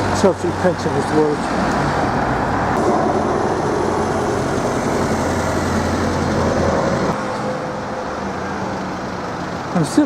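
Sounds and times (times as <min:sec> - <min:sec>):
large vehicle engine humming: 0:00.0 - 0:10.0
passing cars: 0:00.0 - 0:10.0.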